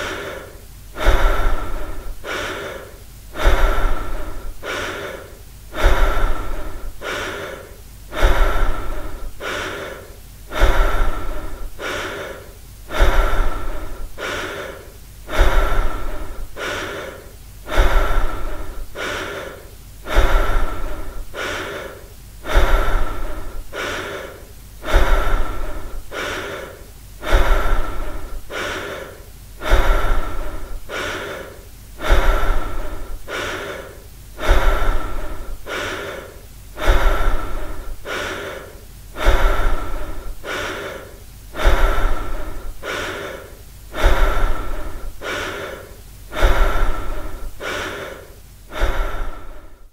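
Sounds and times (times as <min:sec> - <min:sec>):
person breathing heavily: 0:00.0 - 0:49.9.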